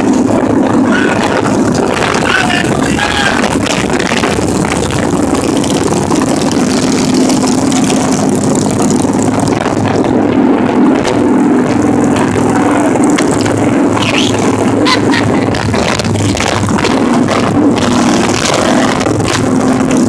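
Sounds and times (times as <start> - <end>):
motorcycle engine drone: 0.0 - 20.0
wind rush on microphone: 0.0 - 20.0.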